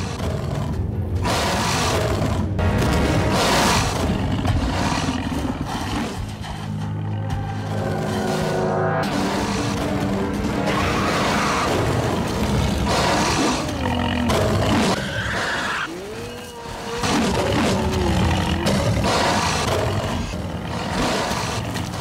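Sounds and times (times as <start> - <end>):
background music: 0.0 - 22.0
dinosaur roars: 0.0 - 22.0.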